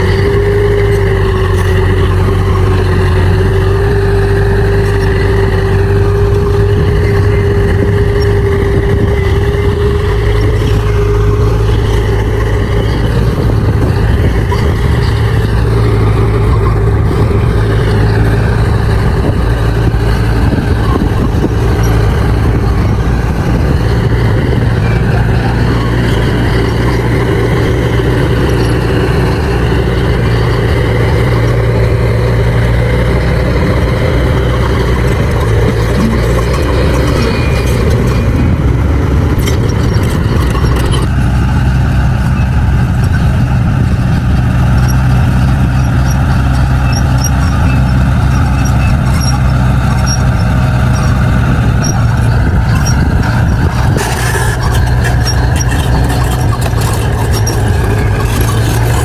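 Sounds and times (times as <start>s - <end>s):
bulldozer diesel engine running: 0.0s - 59.0s
steady whine: 0.0s - 59.0s.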